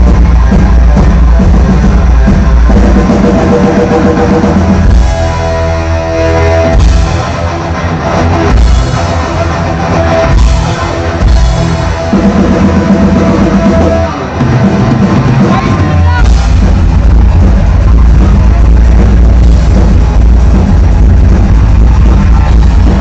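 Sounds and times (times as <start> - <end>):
bass guitar: 0.0 - 23.0
distorted electric guitar: 0.0 - 23.0
drum kit: 0.0 - 23.0.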